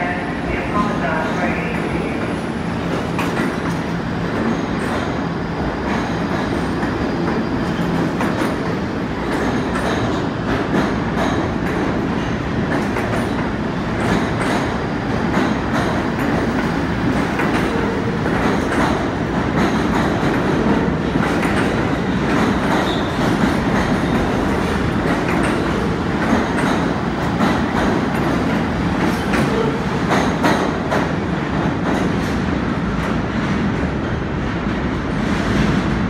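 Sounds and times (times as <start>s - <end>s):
subway train rumble: 0.0s - 36.0s
wheels clacking over rail joints: 2.9s - 32.4s.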